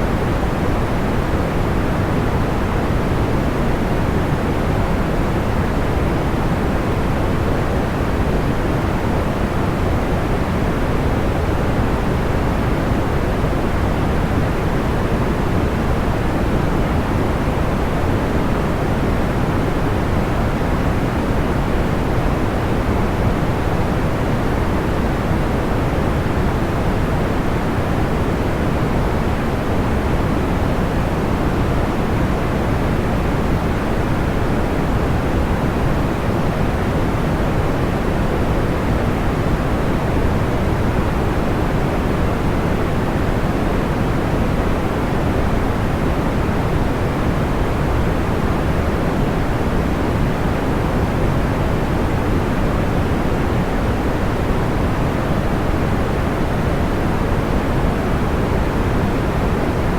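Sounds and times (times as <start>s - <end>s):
low white noise hiss: 0.0s - 59.9s.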